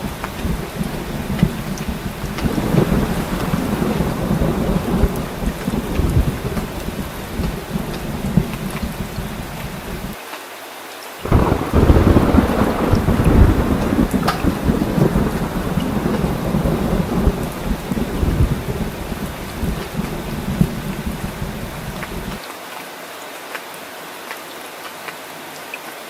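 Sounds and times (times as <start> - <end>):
rolling thunder: 0.0 - 10.2, 11.3 - 22.4
heavy rain: 0.0 - 26.0.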